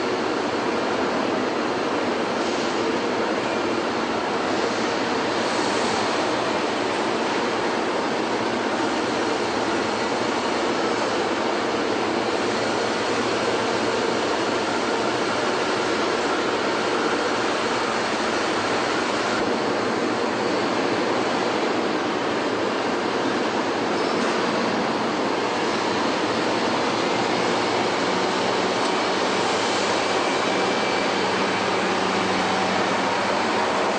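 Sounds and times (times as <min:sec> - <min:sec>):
faint machinery hum: 0:00.0 - 0:33.9
steady rushing factory noise: 0:00.0 - 0:33.9.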